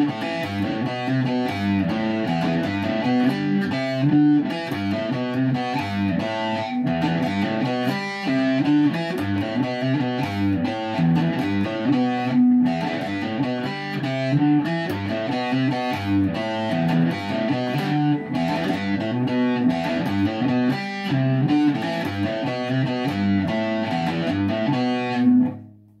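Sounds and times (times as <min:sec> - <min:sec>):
electric guitar solo: 0:00.0 - 0:25.7.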